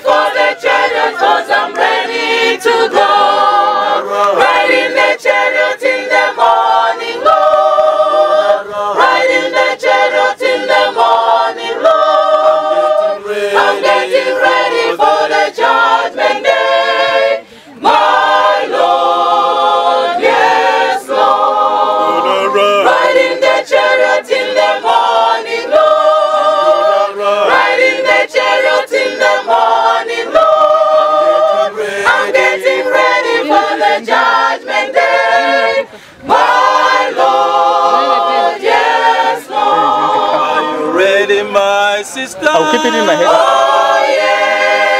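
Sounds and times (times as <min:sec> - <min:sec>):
mixed choir singing a cappella: 0:00.0 - 0:44.9.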